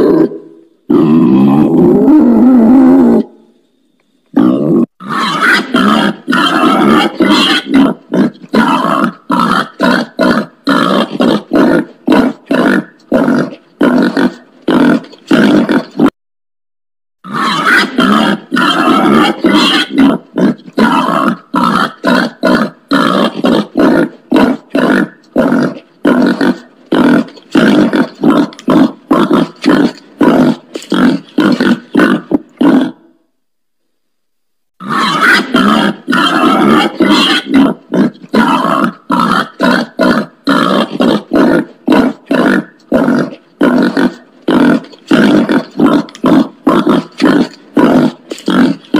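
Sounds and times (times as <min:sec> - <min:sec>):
wild pig grunting: 0:00.0 - 0:03.4, 0:04.3 - 0:16.1, 0:17.2 - 0:33.2, 0:34.8 - 0:48.9.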